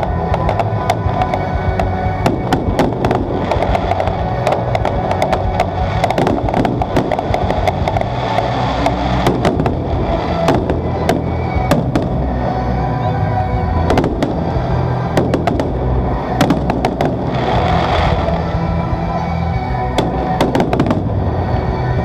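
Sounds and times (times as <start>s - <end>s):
fireworks bangs and crackles: 0.0s - 22.0s
music with held low notes: 0.0s - 22.0s.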